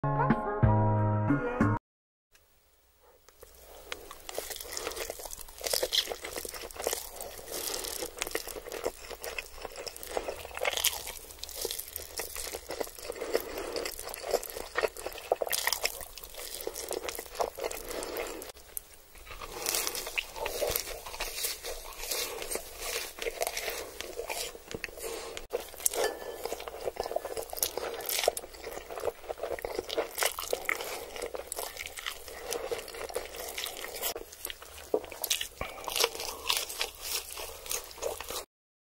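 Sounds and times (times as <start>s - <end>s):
noodles slurped and chewed: 3.4s - 18.6s, 19.2s - 38.5s
crunching fried chicken: 3.4s - 38.5s.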